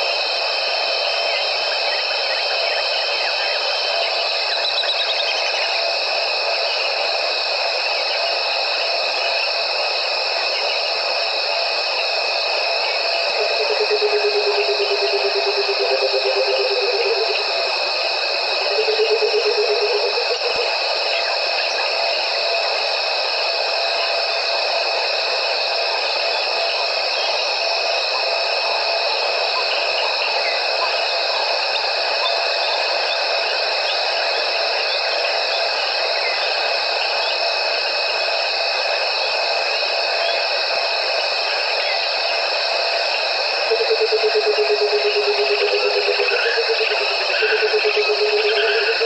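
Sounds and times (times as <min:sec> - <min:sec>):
insect chorus: 0:00.0 - 0:49.0.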